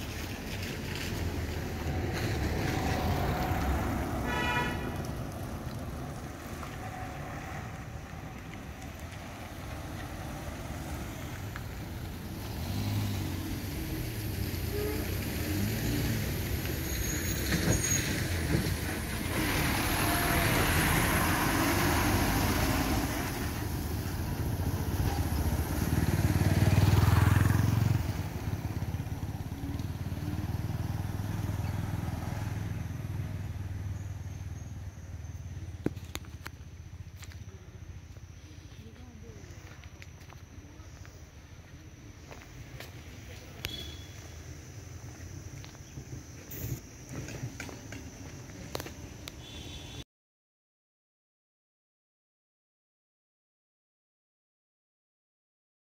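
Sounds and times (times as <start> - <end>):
vehicle engine and tyre rumble: 0.0 - 50.0.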